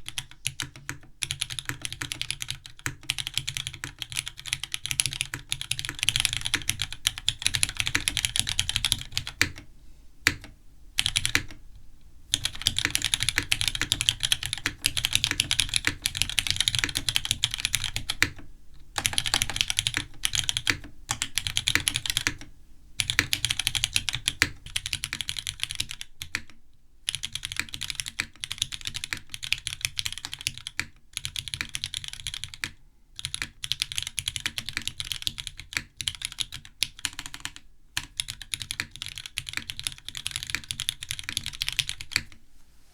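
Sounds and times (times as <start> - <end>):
typing on mechanical keyboard: 0.0 - 11.6, 12.3 - 42.4.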